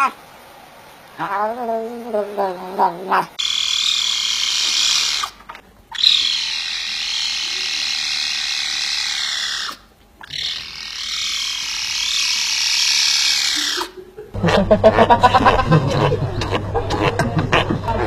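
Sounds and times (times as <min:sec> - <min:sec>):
animal giving long noisy calls: 0:01.2 - 0:18.0.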